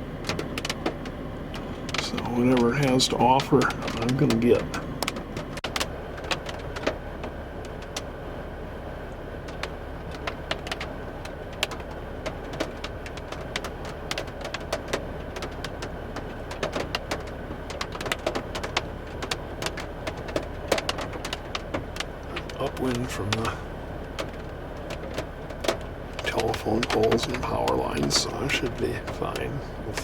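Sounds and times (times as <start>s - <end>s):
low wind rumble: 0.0s - 30.0s
sharp ticks and taps: 0.2s - 8.1s, 9.4s - 30.0s.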